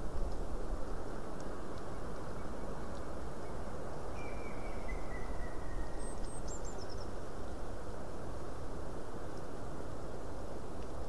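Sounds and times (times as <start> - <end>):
wind in pines: 0.0 - 11.0.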